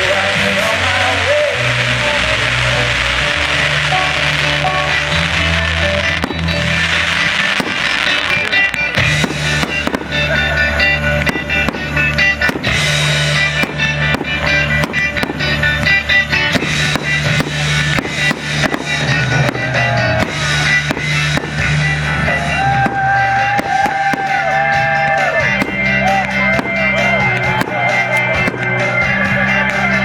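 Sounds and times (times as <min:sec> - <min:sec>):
loud music with steady beat: 0:00.0 - 0:30.0
sliding melody line: 0:00.0 - 0:30.0.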